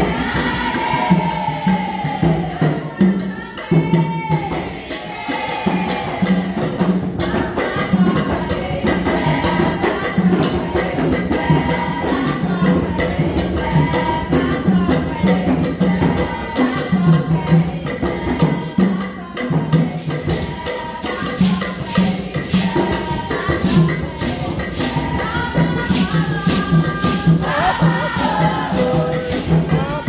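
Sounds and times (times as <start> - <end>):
rattling hand percussion: 0.0 - 30.0.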